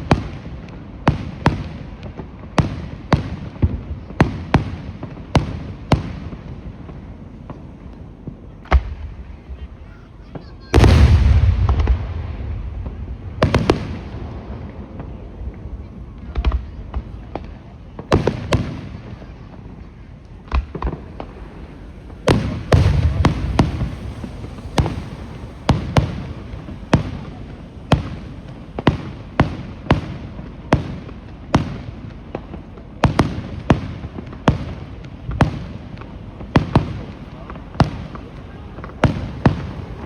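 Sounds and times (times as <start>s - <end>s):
fireworks bangs with rumbling tail: 0.0s - 40.0s.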